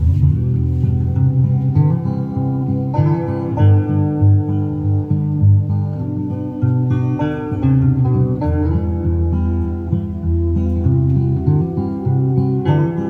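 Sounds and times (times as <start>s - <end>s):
plucked guitar music from speakers: 0.0s - 13.0s.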